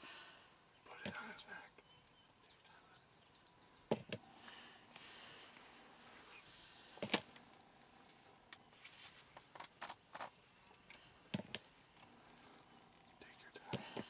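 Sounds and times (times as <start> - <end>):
background hiss: 0.0 - 14.0
soft ticks and rustles: 0.9 - 6.4, 7.0 - 14.0.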